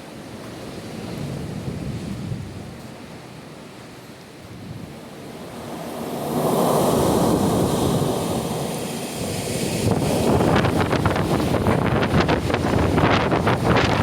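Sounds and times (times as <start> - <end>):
strong wind gusting: 0.2 - 14.0
wind buffeting microphone: 0.2 - 14.0.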